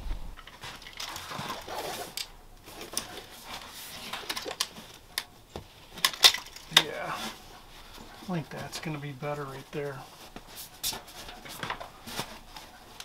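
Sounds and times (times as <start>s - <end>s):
fabric rustling against tent wall: 0.0s - 13.0s.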